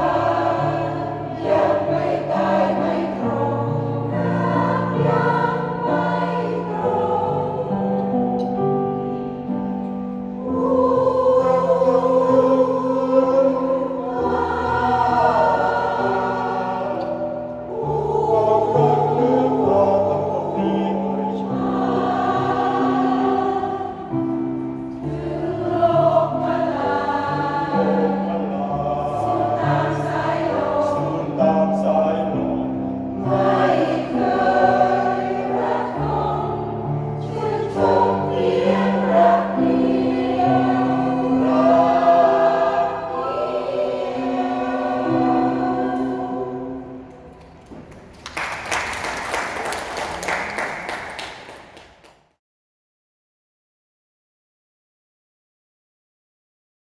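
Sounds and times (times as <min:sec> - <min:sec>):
choir singing: 0:00.0 - 0:47.4.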